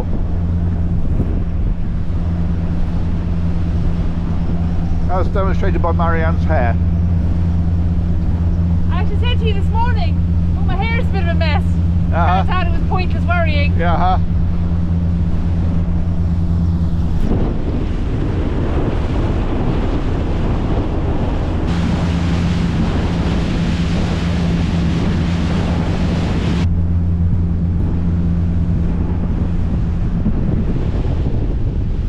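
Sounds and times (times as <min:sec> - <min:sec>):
boat engines droning: 0:00.0 - 0:32.0
water rushing past hull: 0:00.0 - 0:32.0
wind buffeting microphone: 0:00.0 - 0:32.0.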